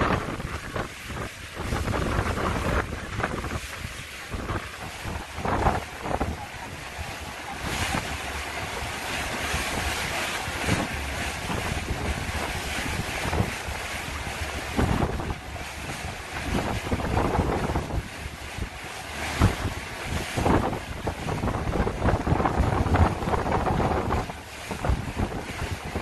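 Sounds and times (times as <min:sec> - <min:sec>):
choppy water rushing along hull: 0:00.0 - 0:26.0
wind buffeting microphone: 0:00.0 - 0:26.0.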